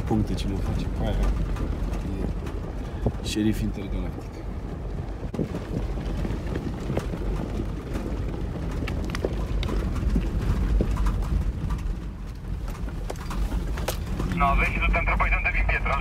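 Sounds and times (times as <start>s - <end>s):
vehicle driving over gravel: 0.0s - 16.0s.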